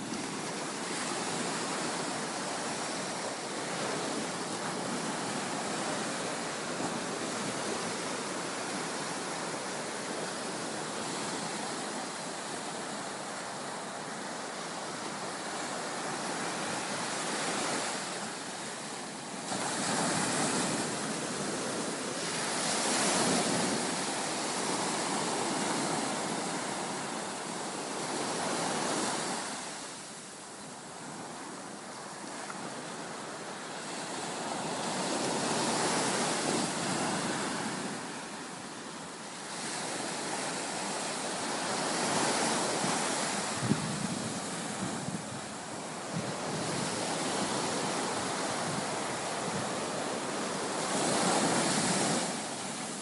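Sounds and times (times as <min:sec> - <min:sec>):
surf breaking on a beach: 0:00.0 - 0:53.0.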